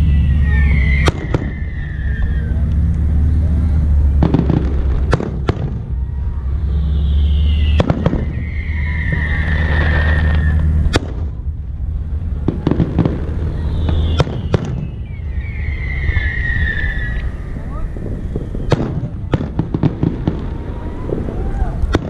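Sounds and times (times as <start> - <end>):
falling firework whistle: 0.0 - 2.7, 5.2 - 11.1, 12.6 - 22.0
low hum: 0.0 - 21.9
fireworks bangs: 0.0 - 22.0.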